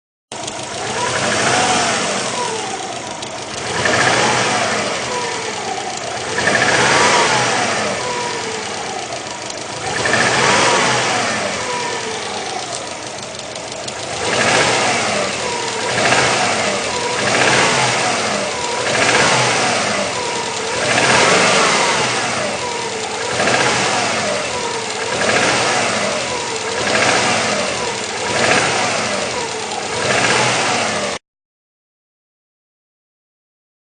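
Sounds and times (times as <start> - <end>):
car engine revving: 0.3 - 31.2.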